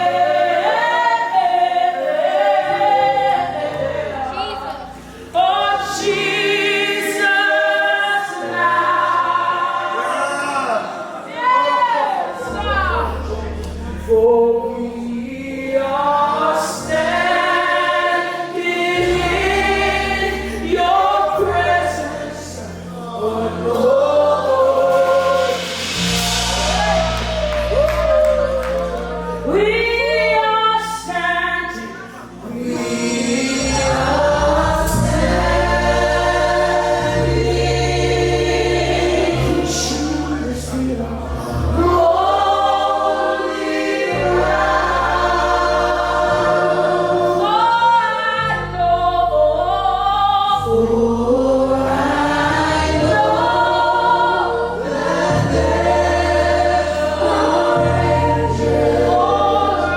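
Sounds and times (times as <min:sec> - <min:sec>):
bass and keyboard chords: 0:00.0 - 0:11.0, 0:12.5 - 0:59.9
choir singing gospel: 0:00.0 - 0:59.9.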